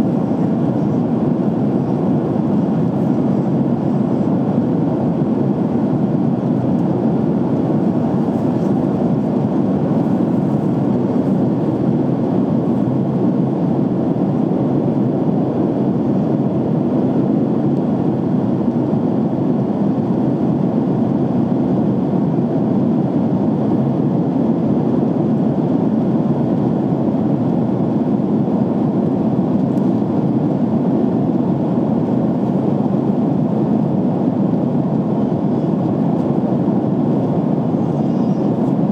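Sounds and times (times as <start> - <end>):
airliner cabin noise: 0.0 - 38.9.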